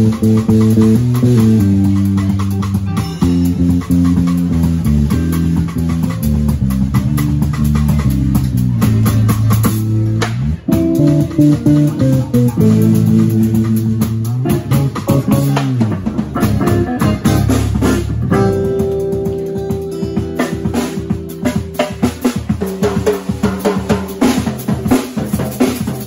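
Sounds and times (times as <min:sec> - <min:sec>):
electric bass sliding notes: 0:00.0 - 0:22.6
drums: 0:00.0 - 0:26.0
electric guitar: 0:00.0 - 0:26.0.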